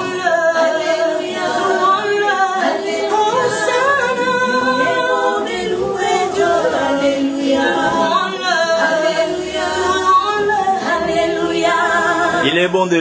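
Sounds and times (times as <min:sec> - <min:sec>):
women singing a cappella: 0:00.0 - 0:12.6.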